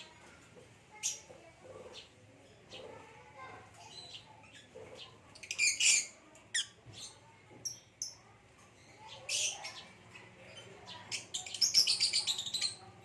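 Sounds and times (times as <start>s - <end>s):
lovebirds chirping and squawking: 0.9s - 13.0s.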